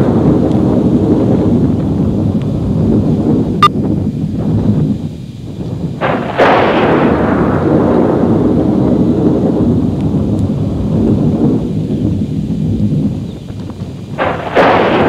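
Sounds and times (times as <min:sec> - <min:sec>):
rain: 0:00.0 - 0:15.0
rolling rumble of thunder: 0:00.0 - 0:15.0
thunderclap: 0:00.0 - 0:15.0.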